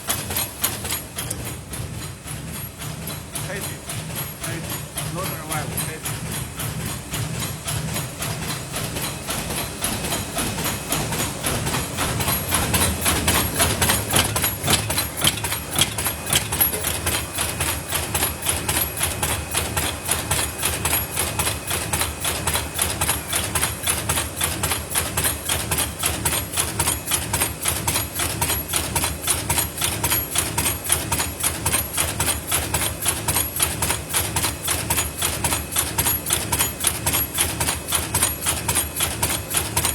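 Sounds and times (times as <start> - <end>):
machine clattering: 0.0 - 39.9.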